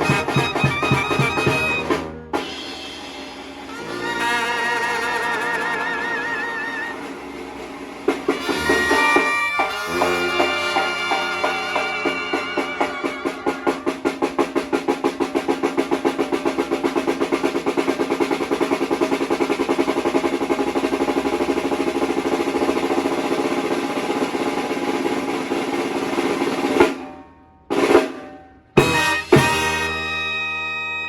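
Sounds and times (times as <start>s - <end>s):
snare drum roll: 0.0s - 30.1s.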